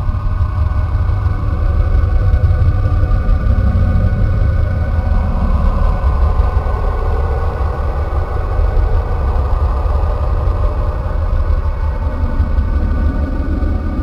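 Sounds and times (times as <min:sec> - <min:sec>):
deep rumbling drone: 0:00.0 - 0:14.0.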